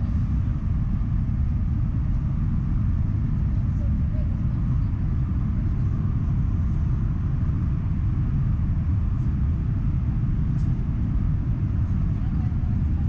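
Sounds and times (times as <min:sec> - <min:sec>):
train interior low rumble: 0:00.0 - 0:13.0.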